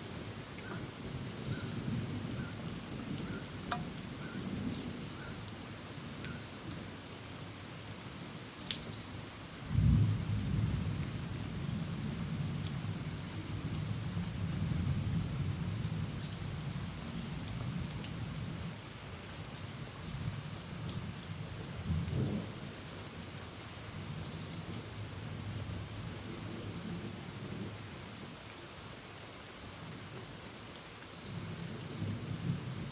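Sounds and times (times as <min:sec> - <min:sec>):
rain on a tin roof: 0:00.0 - 0:32.9.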